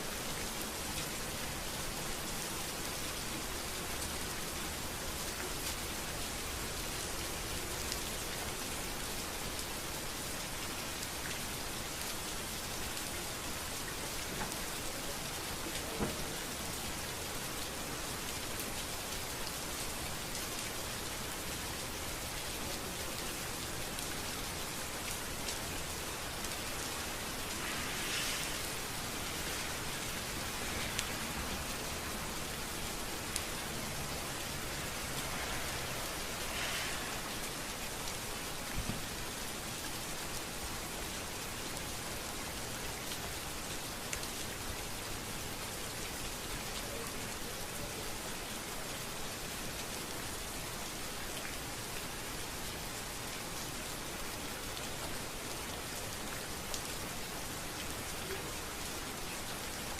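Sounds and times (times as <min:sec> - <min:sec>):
rain falling on street: 0:00.0 - 0:59.9.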